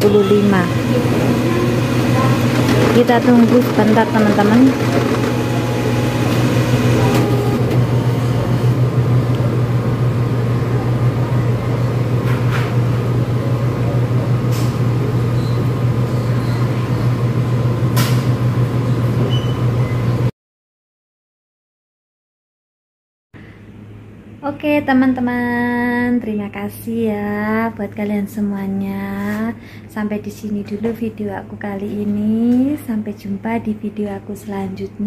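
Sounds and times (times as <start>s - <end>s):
low machine hum: 0.0s - 20.3s, 23.4s - 35.0s.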